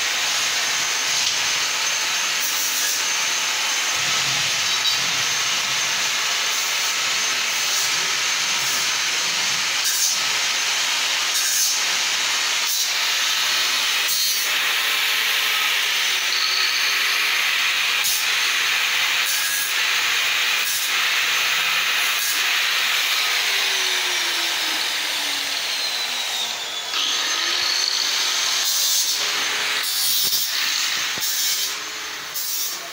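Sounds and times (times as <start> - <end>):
power tool grinding sheet metal: 0.0 - 32.9.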